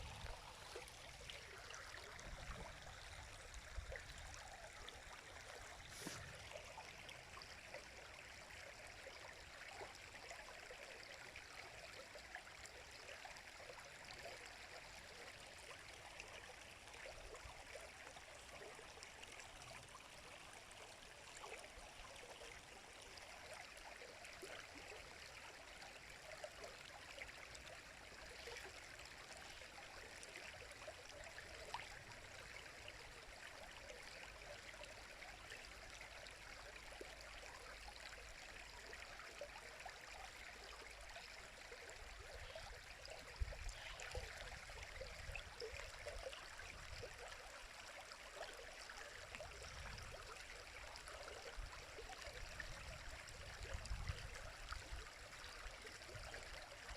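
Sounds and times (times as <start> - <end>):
river water babbling: 0.0 - 56.9.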